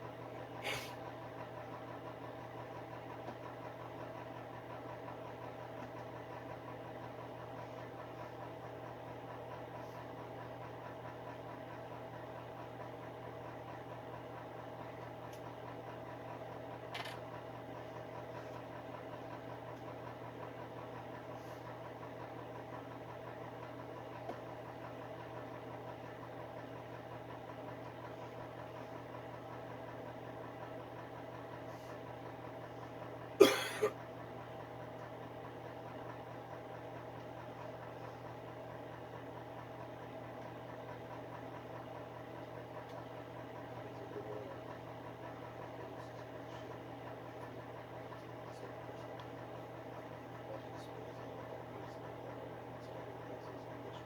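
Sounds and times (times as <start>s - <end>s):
space heater fan humming: 0.0s - 54.0s.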